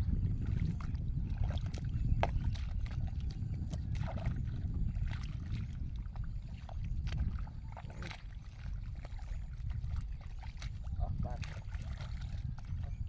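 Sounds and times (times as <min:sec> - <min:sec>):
muddy water sloshing: 0:00.0 - 0:13.0
steady low rumble: 0:00.0 - 0:13.0
small splashes and clicks: 0:00.8 - 0:13.0.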